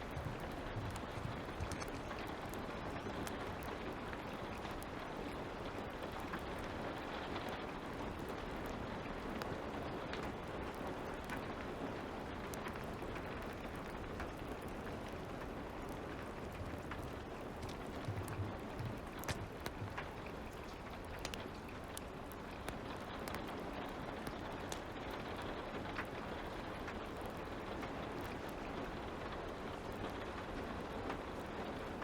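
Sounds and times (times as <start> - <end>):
light rain patter: 0.0 - 32.0
wood fire popping and crackling: 0.0 - 32.0.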